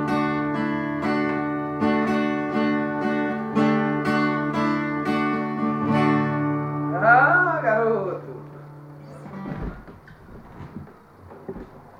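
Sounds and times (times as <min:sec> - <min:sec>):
acoustic guitar strumming chords: 0:00.0 - 0:10.1.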